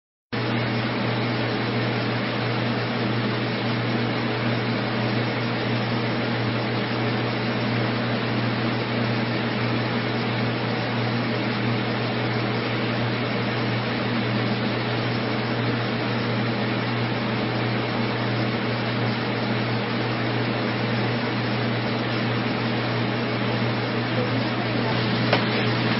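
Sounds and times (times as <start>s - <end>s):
machine hum with hiss: 0.4s - 25.9s.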